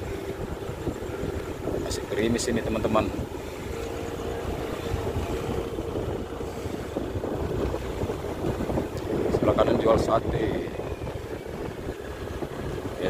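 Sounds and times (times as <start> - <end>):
motorcycle engine cruising: 0.0 - 13.0
wind rumble on microphone: 0.0 - 13.0.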